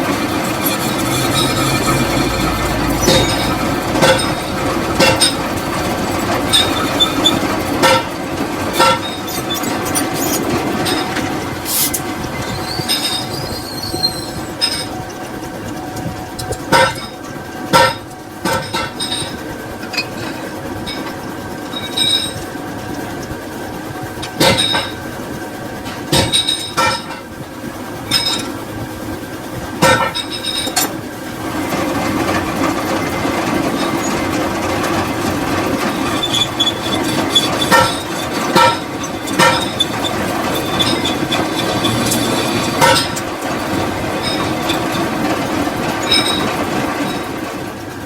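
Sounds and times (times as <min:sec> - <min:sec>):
metal lathe running: 0:00.0 - 0:48.0.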